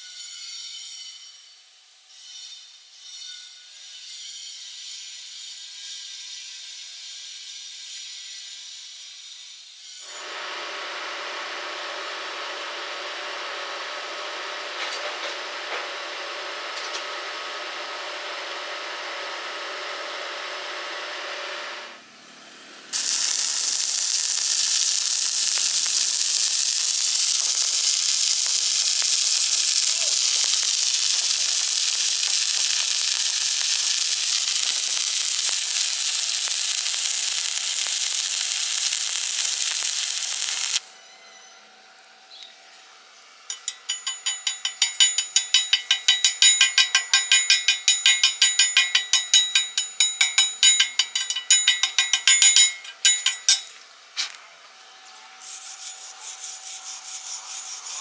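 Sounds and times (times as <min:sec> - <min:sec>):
welding arc sizzling hiss: 0:03.7 - 0:21.2, 0:22.5 - 0:41.0, 0:43.5 - 0:54.4, 0:55.4 - 0:58.0.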